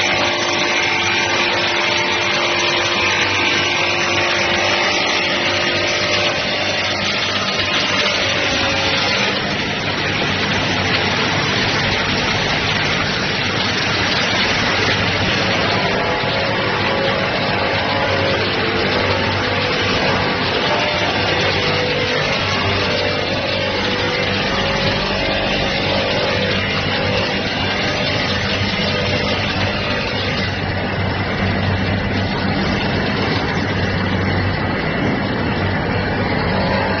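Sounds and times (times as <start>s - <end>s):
factory machinery hiss and hum: 0.0s - 37.0s.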